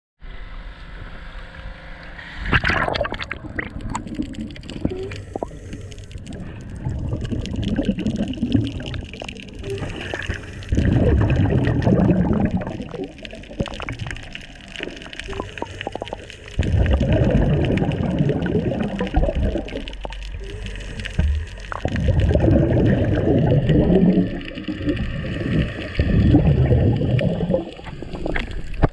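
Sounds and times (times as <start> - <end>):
underwater water noise: 0.6 - 28.9
exhaled breath bubbling underwater: 2.3 - 28.9.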